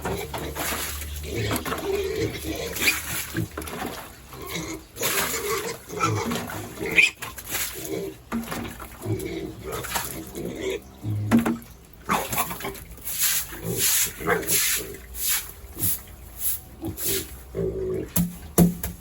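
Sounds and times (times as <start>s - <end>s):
pigs grunting and squealing: 0.0s - 16.0s, 16.7s - 18.2s.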